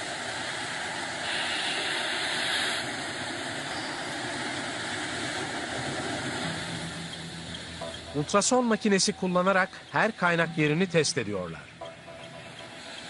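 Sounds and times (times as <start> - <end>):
arc welding crackling hiss: 0.0 - 10.9.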